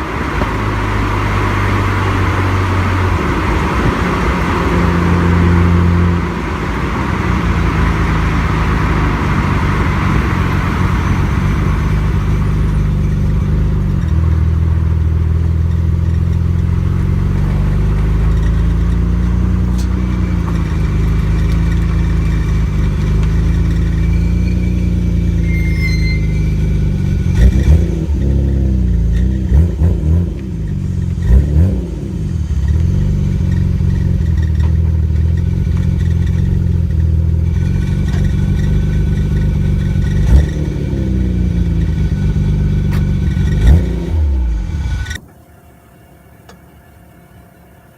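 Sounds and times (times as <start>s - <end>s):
car engine and exhaust revving: 0.0s - 47.9s.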